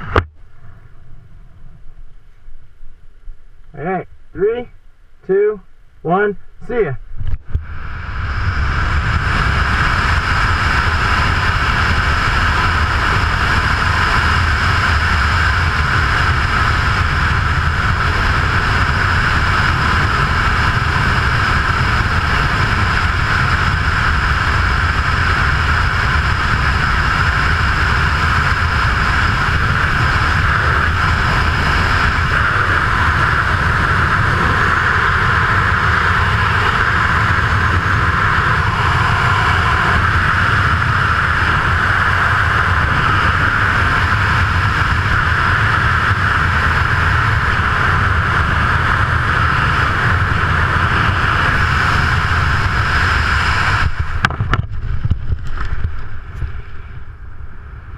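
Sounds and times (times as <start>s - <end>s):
wind rushing over microphone: 0.0s - 57.9s.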